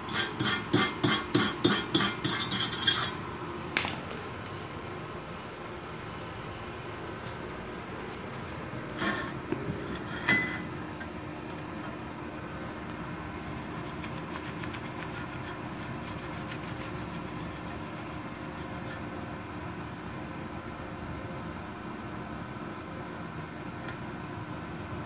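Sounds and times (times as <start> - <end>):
cooling fan running: 0.0 - 25.0.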